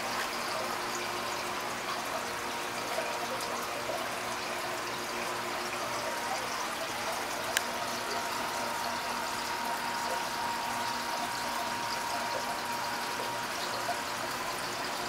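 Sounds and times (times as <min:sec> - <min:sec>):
trickle of water: 0:00.0 - 0:15.0.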